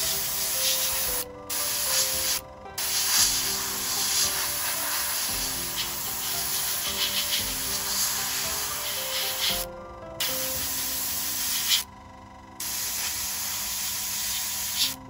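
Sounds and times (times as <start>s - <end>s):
airbrush hissing: 0.0s - 11.9s, 12.6s - 15.0s
background music: 0.0s - 15.0s.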